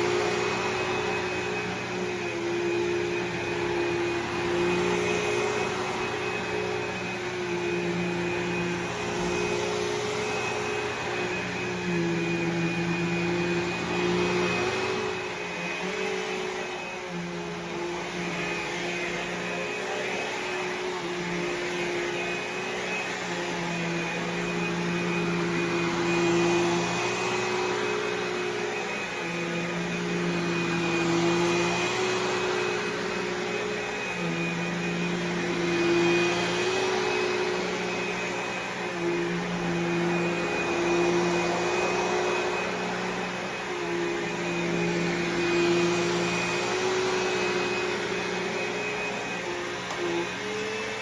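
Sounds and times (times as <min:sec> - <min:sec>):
vacuum cleaner motor whine: 0:00.0 - 0:51.0.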